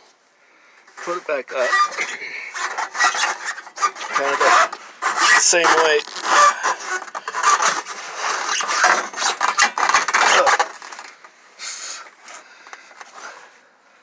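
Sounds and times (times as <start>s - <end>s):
spare tire scraping: 0.8s - 13.5s.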